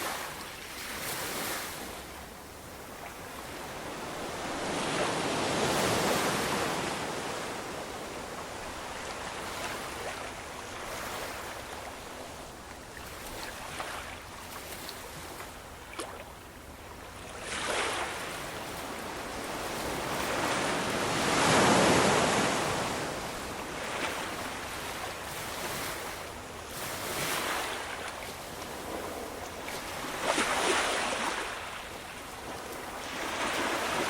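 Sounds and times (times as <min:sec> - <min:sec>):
ocean waves washing in and out: 0:00.0 - 0:34.0.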